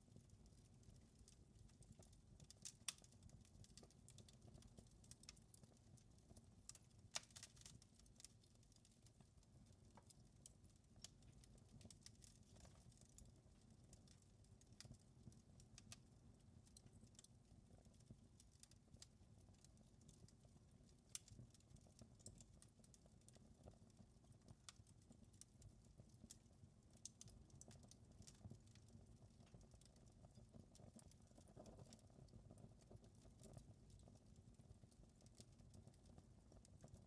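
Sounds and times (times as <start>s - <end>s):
wood fire crackling: 0.1s - 37.0s.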